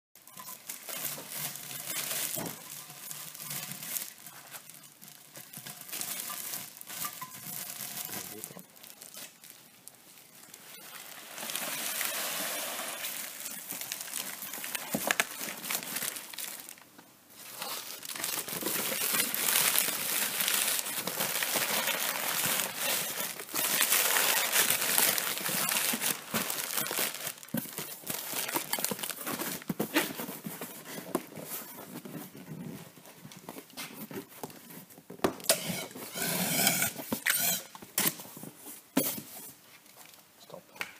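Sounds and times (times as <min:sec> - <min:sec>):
bubble wrap crinkling: 0:00.2 - 0:40.3.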